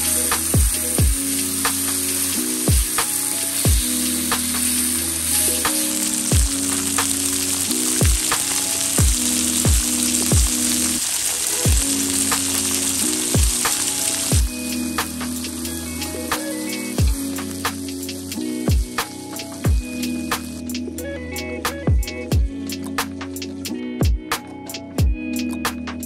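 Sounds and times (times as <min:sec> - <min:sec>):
music with deep drum beat: 0:00.0 - 0:10.9, 0:11.6 - 0:26.0
food sizzling in a pan: 0:00.0 - 0:21.0.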